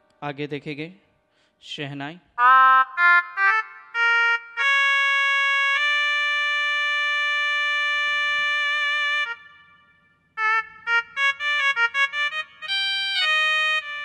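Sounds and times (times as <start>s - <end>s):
keyboard shehnai notes: 2.4s - 14.0s.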